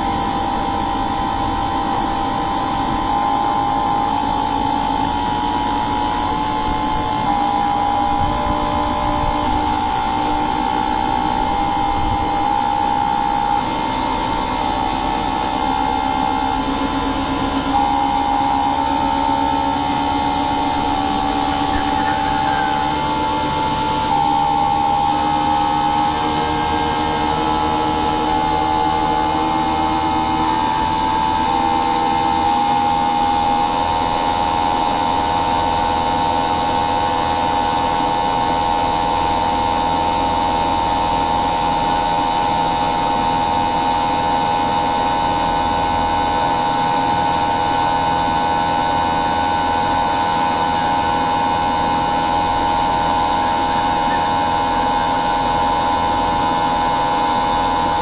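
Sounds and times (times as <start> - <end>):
constant hum: 0.0 - 58.0
motor machine whine: 0.0 - 58.0.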